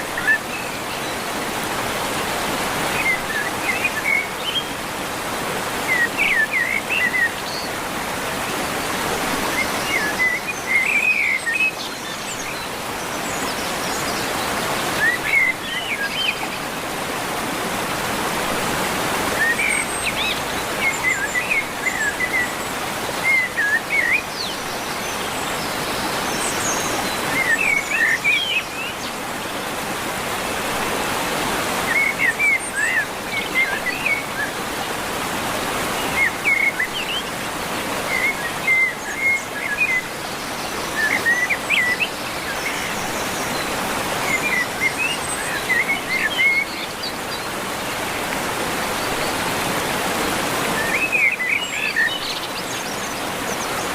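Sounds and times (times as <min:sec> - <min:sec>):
rushing water: 0:00.0 - 0:53.9.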